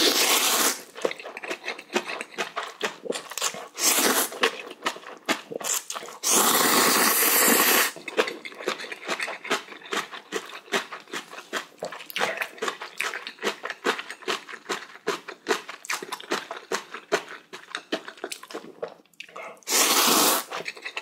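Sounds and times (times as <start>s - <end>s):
wet chewing of noodles: 0.0s - 21.0s.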